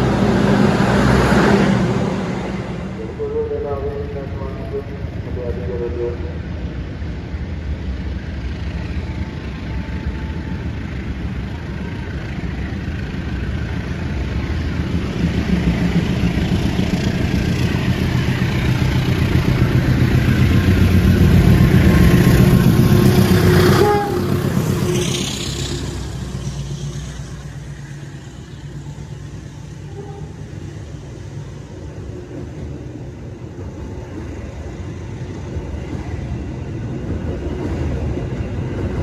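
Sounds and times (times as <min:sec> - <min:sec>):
diesel locomotive engine rumble: 0:00.0 - 0:39.0
electric train passing: 0:00.0 - 0:39.0.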